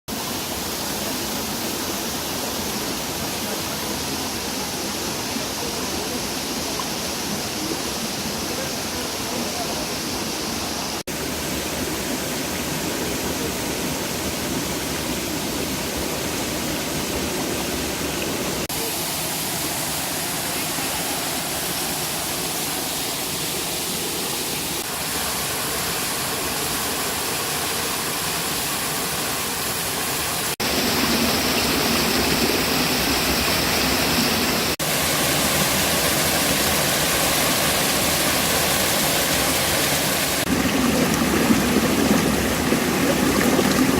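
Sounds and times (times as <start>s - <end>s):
river and waterfall rushing: 0.1s - 43.9s.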